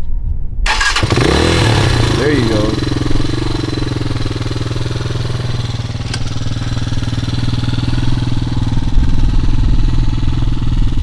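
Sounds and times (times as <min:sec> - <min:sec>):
dirt bike engine idling: 0:00.7 - 0:11.0.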